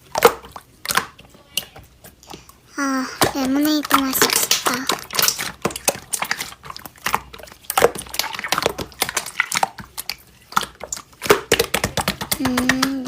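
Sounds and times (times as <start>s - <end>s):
slime squished by hand: 0.0s - 13.0s.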